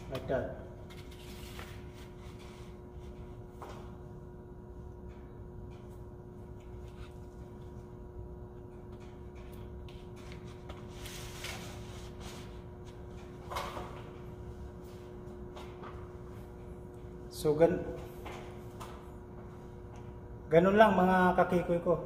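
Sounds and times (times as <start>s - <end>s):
steady machinery hum: 0.0s - 22.0s.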